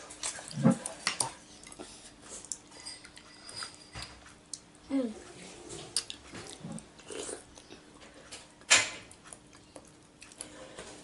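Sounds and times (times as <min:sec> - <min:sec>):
chewing and mouth noises: 0:00.1 - 0:11.0.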